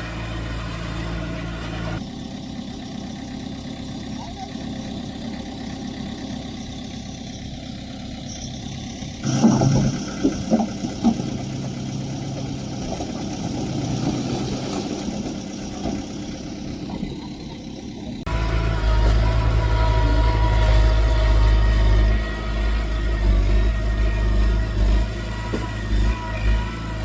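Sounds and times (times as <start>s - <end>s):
diesel engine running: 0.0s - 27.0s
louder deeper engine: 0.0s - 27.0s.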